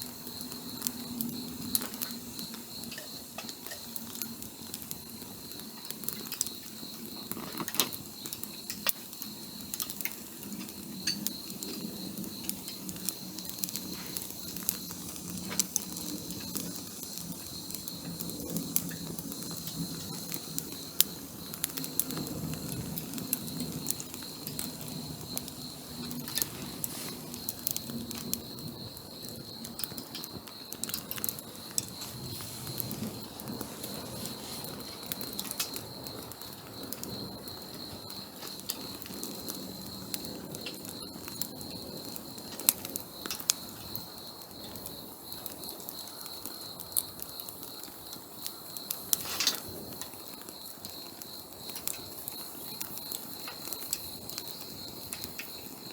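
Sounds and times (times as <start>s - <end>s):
campfire popping and crackling: 0.0s - 55.9s
flame flutter: 0.0s - 55.9s.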